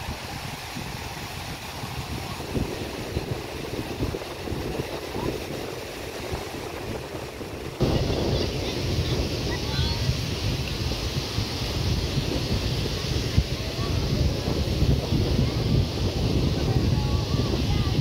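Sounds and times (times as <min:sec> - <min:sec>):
surf washing: 0:00.0 - 0:18.0
wind buffeting microphone: 0:00.0 - 0:18.0.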